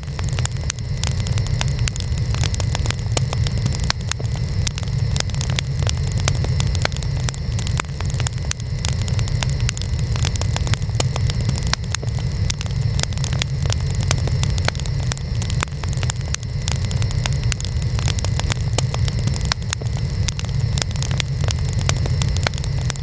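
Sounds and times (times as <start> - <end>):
steady low rumble: 0.0 - 23.0
wood fire crackling: 0.0 - 23.0.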